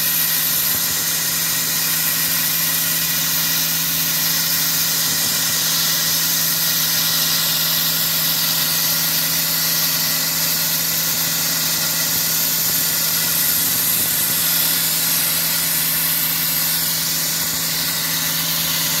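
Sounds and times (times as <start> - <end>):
engine running steadily: 0.0 - 19.0
sandblasting nozzle hissing: 0.0 - 19.0.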